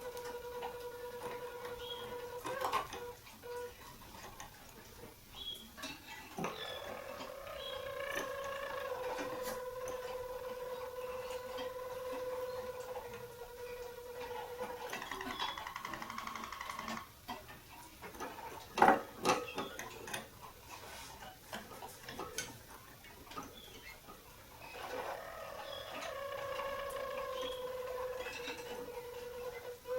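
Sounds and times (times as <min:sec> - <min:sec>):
canary singing rolling song: 0:00.0 - 0:29.9.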